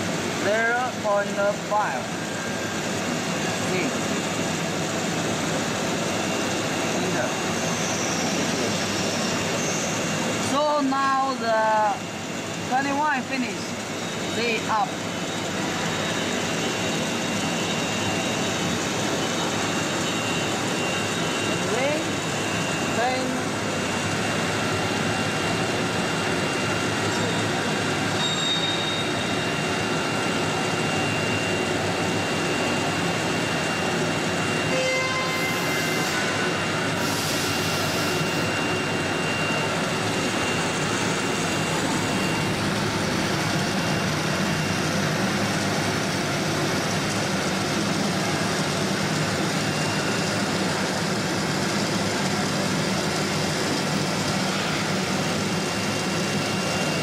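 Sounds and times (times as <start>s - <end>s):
cnc router machine noise: 0.0s - 57.0s.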